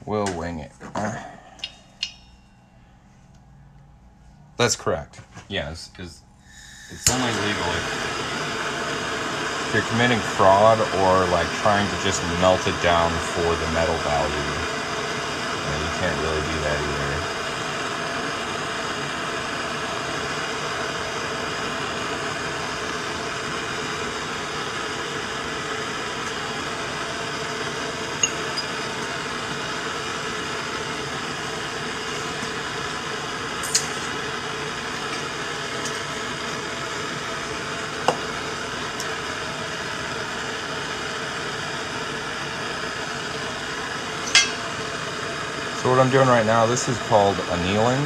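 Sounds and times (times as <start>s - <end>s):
gas torch hissing: 5.6s - 48.0s.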